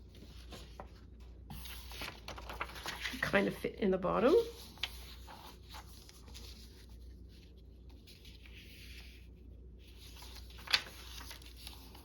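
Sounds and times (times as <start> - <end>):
paper scratching and rustling: 0.0 - 3.6, 4.2 - 12.0.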